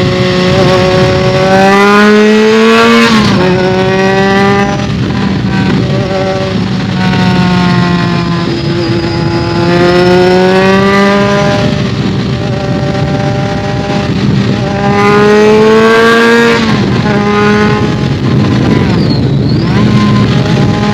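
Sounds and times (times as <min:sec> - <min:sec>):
muffled motorcycle engine revving: 0:00.0 - 0:20.9.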